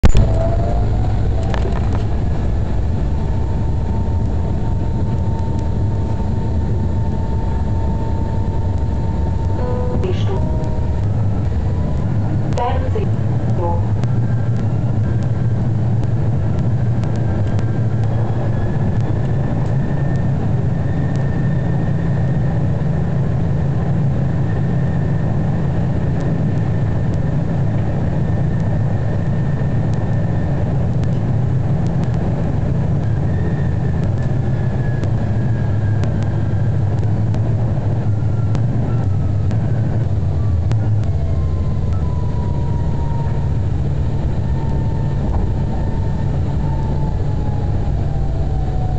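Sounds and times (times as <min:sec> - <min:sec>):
tram wheels rumbling on rails: 0:00.0 - 0:48.9.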